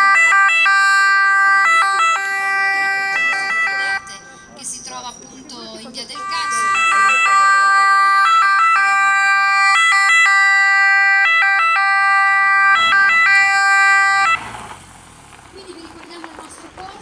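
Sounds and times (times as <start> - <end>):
ambulance two-tone siren: 0.0 - 5.5, 6.1 - 14.6.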